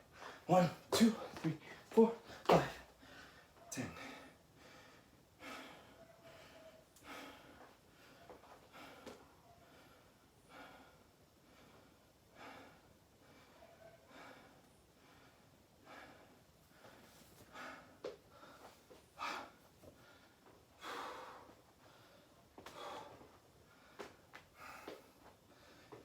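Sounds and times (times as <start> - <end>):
person breathing hard: 0.1 - 26.0.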